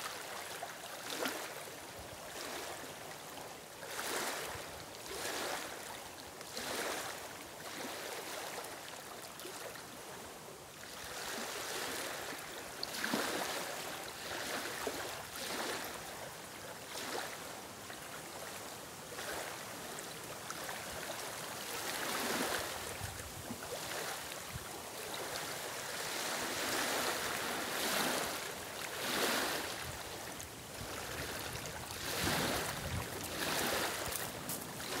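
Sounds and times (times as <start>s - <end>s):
small waves lapping on stones: 0.0s - 10.2s, 10.8s - 35.0s.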